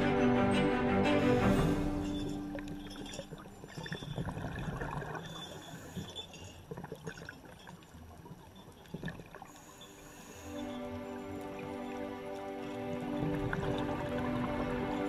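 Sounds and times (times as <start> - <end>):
underwater rush of water: 0.8 - 15.0.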